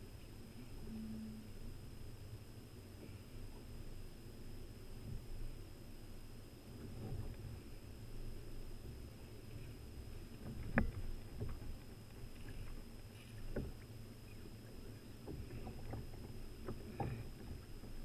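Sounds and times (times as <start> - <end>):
low rumble of water and wind: 0.0 - 18.0.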